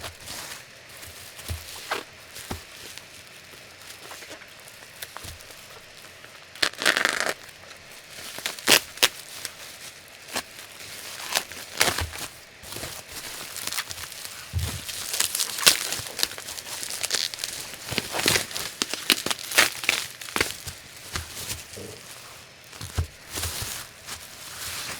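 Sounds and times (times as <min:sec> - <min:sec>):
plastic and cardboard rustling: 0:00.0 - 0:24.9.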